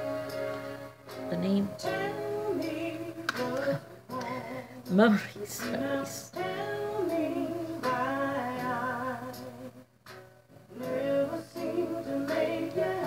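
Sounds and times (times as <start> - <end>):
woman singing slow melody: 0.0 - 9.8, 10.7 - 13.0.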